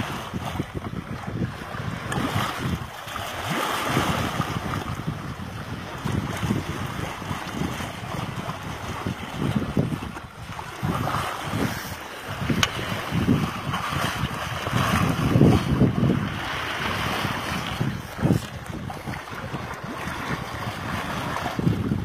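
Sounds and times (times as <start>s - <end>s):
water rushing past hull: 0.0s - 22.0s
wind buffeting microphone: 0.0s - 22.0s.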